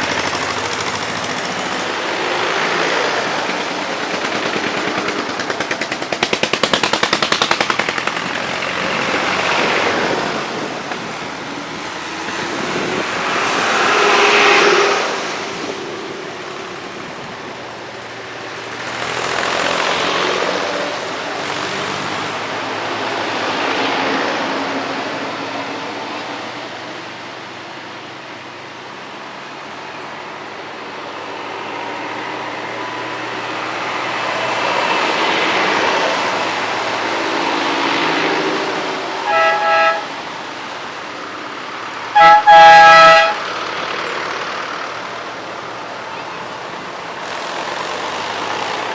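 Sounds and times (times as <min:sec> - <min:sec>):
old tractor engines passing: 0:00.0 - 0:48.9.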